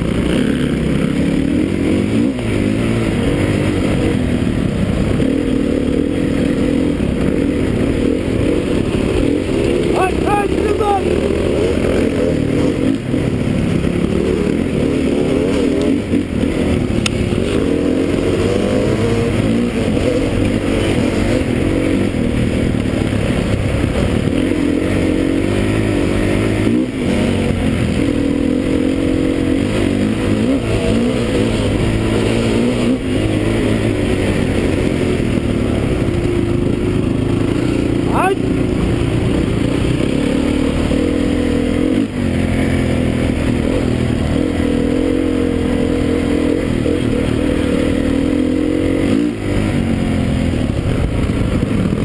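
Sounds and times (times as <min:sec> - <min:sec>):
dirt bike engine: 0:00.0 - 0:52.0.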